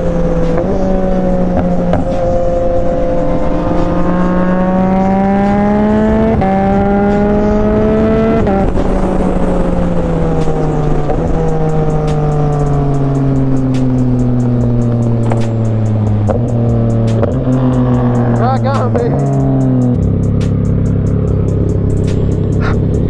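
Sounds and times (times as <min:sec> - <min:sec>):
motorcycle accelerating through gears: 0:00.0 - 0:23.0.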